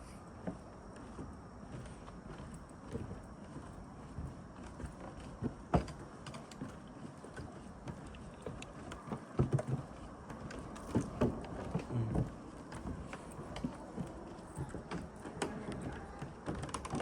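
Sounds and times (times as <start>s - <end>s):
footsteps of person walking: 0.0s - 17.0s.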